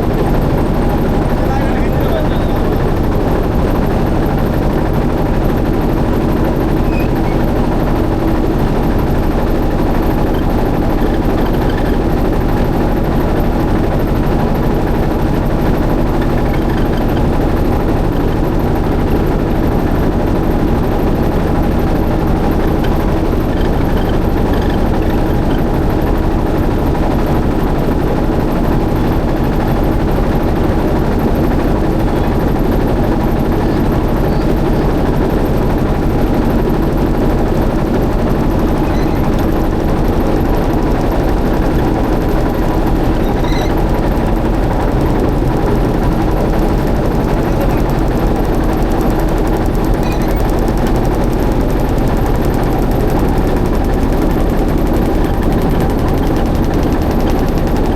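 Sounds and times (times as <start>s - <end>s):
motorboat engine droning: 0.0s - 57.9s.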